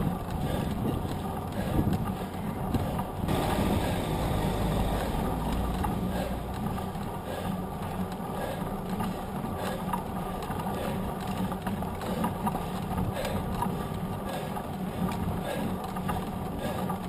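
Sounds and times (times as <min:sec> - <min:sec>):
bike frame rattling and ticking: 0:00.0 - 0:17.0
bike tyres rumbling on asphalt: 0:00.0 - 0:17.0
wind: 0:00.0 - 0:17.0.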